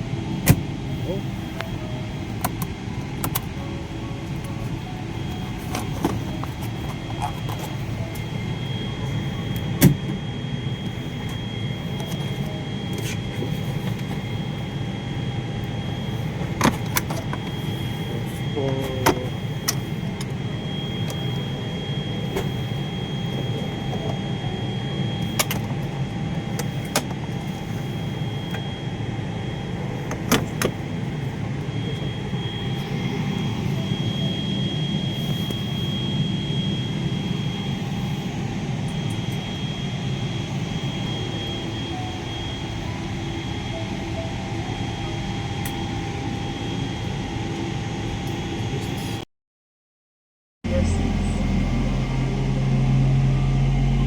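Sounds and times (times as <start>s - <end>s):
airliner cabin hum: 0.0s - 49.2s
thin high whine: 0.0s - 49.2s.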